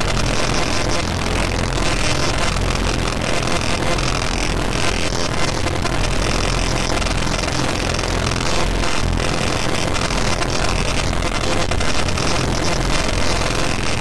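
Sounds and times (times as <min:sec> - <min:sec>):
distorted noise wall: 0:00.0 - 0:14.0.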